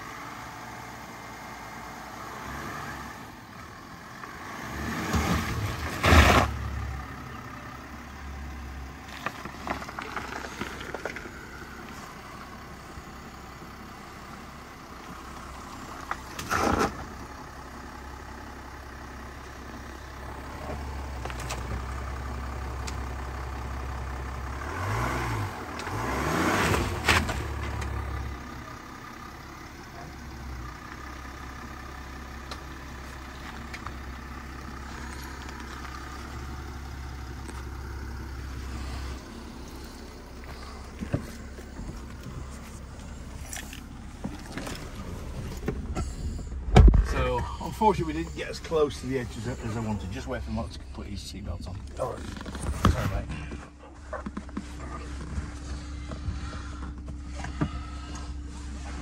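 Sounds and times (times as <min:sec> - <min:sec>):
car engine running at low revs: 0:00.0 - 0:59.0.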